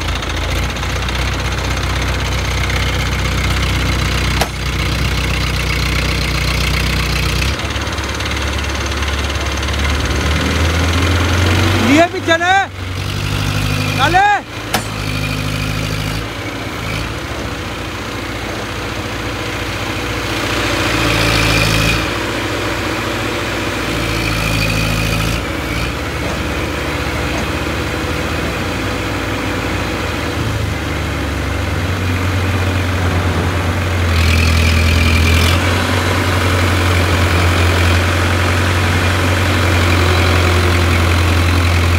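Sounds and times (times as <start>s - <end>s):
diesel crane engine running: 0.0s - 41.9s.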